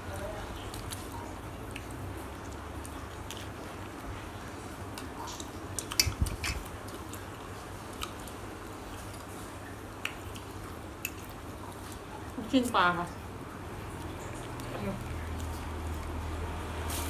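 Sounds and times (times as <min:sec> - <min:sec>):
person chewing food: 0:00.0 - 0:12.4, 0:13.2 - 0:16.8.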